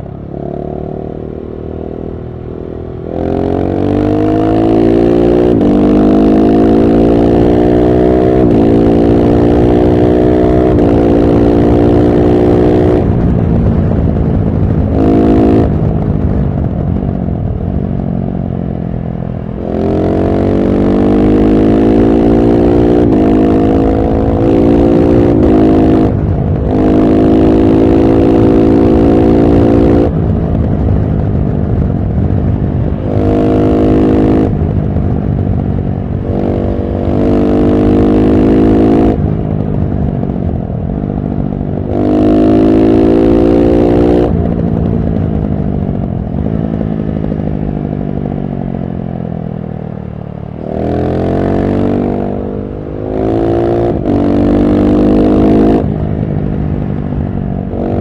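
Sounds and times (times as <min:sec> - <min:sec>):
motorcycle engine revving: 0:00.0 - 0:17.1, 0:19.4 - 0:58.0.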